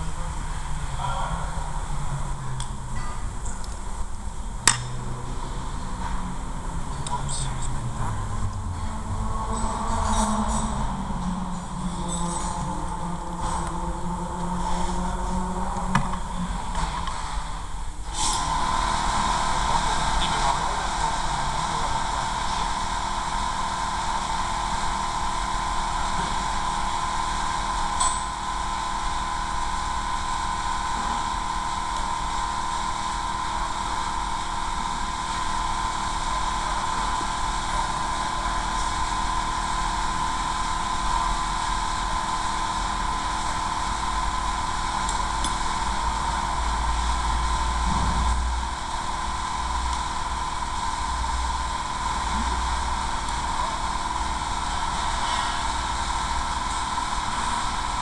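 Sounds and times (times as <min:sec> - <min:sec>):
mechanical drone: 0:00.0 - 0:58.0.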